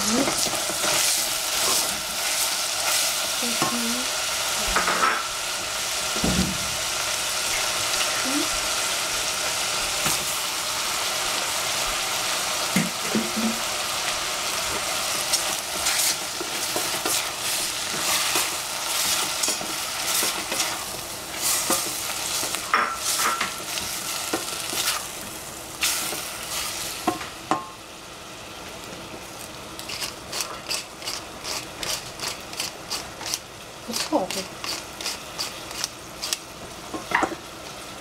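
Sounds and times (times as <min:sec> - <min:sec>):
shrimp sizzling in saucepan: 0:00.0 - 0:38.0.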